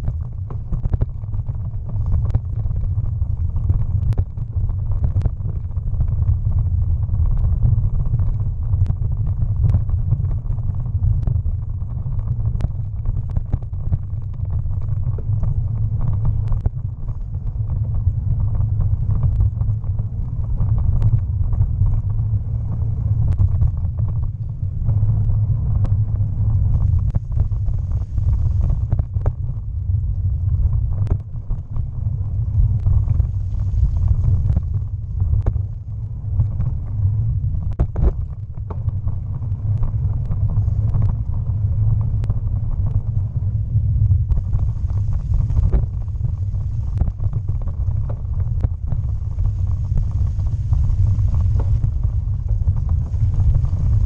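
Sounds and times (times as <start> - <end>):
wind and tyre rumble: 0.0 - 54.0.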